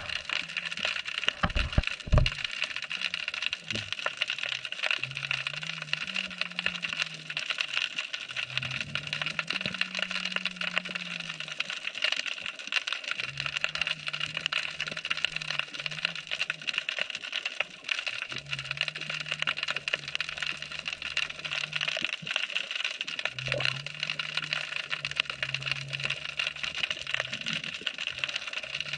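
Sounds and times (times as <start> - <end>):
snapping shrimp crackling underwater: 0.0 - 28.9.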